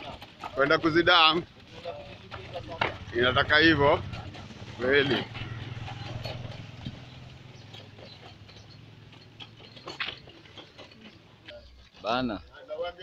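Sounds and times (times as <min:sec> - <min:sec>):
footsteps: 0:00.0 - 0:12.5
hand cart rolling on dirt road: 0:00.0 - 0:13.0.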